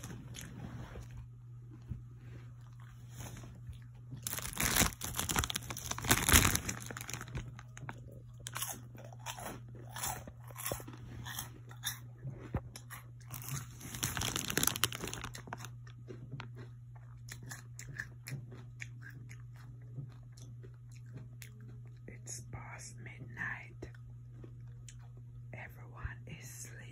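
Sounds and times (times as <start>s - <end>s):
crunching and chewing snacks: 0.0s - 22.8s, 23.5s - 25.8s
faint low hum: 0.0s - 26.9s.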